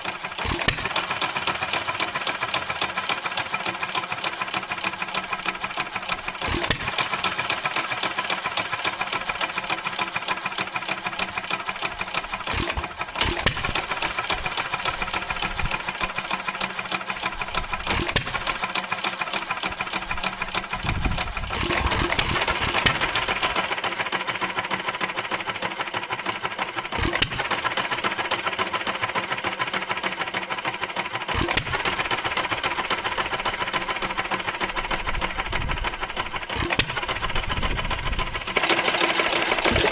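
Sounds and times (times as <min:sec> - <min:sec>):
stationary engine clattering: 0:00.0 - 0:39.9
loud engine firing stroke: 0:00.4 - 0:03.9, 0:04.8 - 0:25.4, 0:26.8 - 0:29.2, 0:31.1 - 0:39.9.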